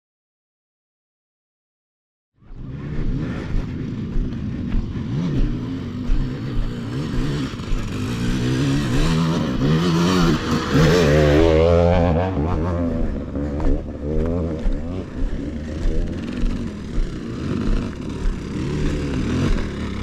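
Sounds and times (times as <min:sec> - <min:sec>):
dirt bike engine revving: 0:02.4 - 0:20.0.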